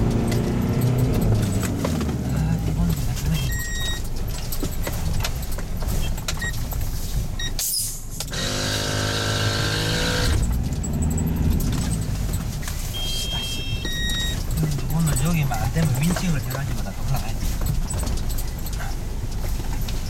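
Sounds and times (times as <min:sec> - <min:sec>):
car engine drone: 0:00.0 - 0:20.0
loose objects rattling on dashboard: 0:00.0 - 0:20.0.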